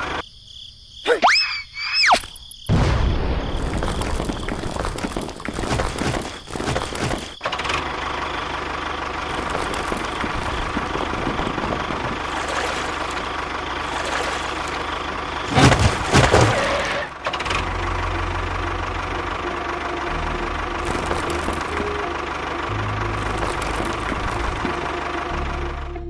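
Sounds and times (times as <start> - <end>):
small engine idling: 3.6 - 26.0.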